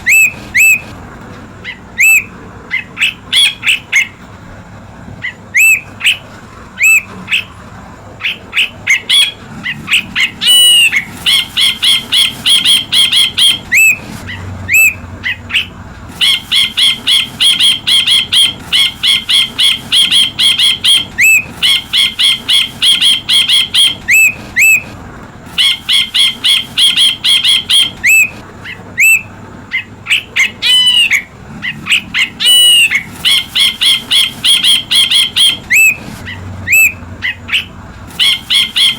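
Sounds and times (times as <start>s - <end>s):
bird sharp ringing chirps: 0.0s - 0.9s, 1.6s - 4.2s, 5.2s - 7.6s, 8.2s - 24.9s, 25.6s - 38.9s
bird gliding whistled notes: 0.0s - 1.0s, 1.6s - 4.2s, 5.2s - 7.5s, 8.2s - 28.4s, 29.0s - 38.9s.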